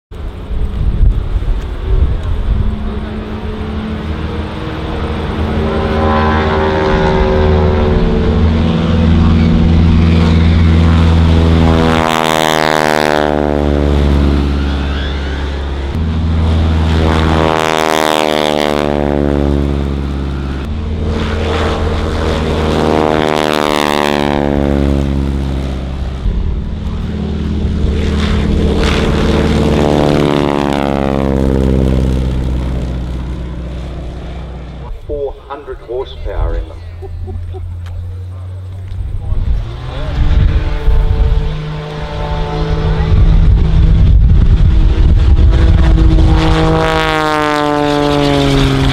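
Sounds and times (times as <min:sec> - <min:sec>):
aircraft radial engines passing: 0:00.1 - 0:48.9.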